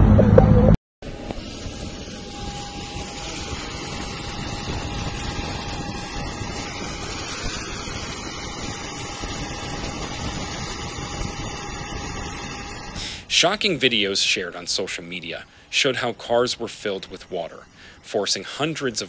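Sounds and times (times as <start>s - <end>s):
wind: 0.1s - 19.0s
faint high whine: 0.2s - 19.0s.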